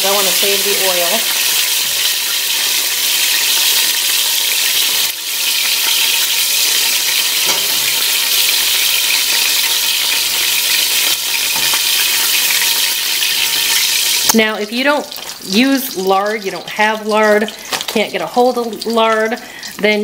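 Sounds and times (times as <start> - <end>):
chicken frying in hot lard: 0.0 - 20.0.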